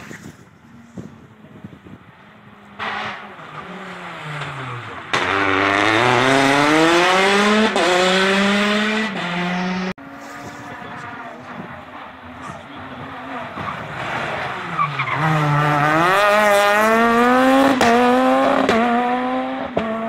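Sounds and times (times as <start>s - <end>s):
rally car engine revving: 2.2s - 20.0s.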